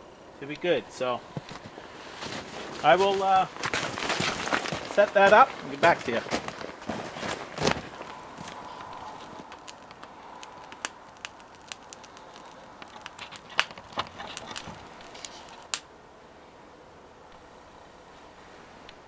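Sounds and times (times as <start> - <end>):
wood fire crackling and popping: 0.5 - 15.9.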